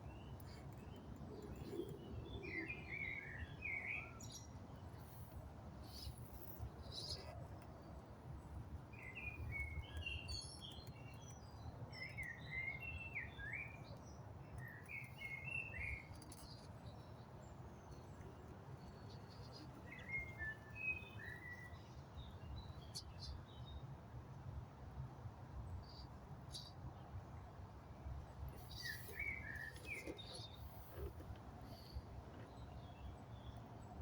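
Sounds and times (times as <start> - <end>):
small birds chirping: 0.0 - 23.8, 25.6 - 27.5, 28.3 - 34.0.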